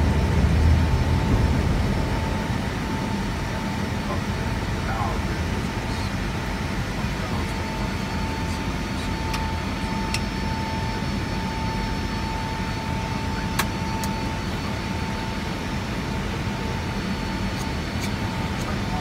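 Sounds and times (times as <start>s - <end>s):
airflow and jet engine noise: 0.0s - 19.0s
thin steady whine: 0.0s - 19.0s.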